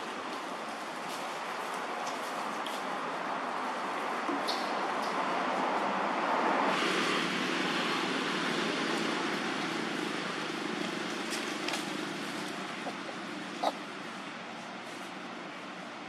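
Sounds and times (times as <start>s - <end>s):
rushing outdoor background noise: 0.0s - 16.0s.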